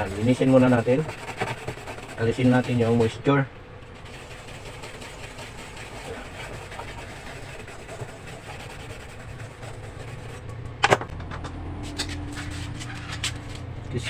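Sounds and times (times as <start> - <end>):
brush rubbing circuit board: 0.0 - 10.5, 11.9 - 14.0
low steady hum: 0.0 - 14.0.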